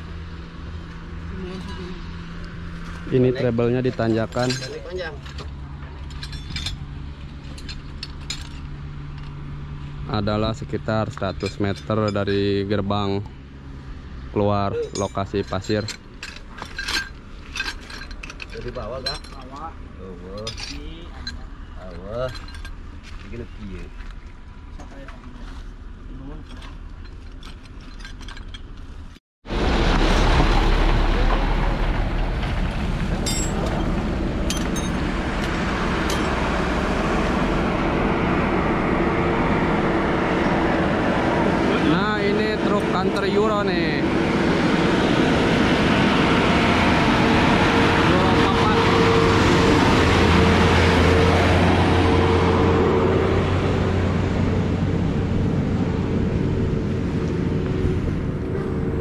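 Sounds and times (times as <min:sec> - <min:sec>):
road noise: 0:00.0 - 0:59.0
vehicle engine rumble: 0:00.0 - 0:59.0.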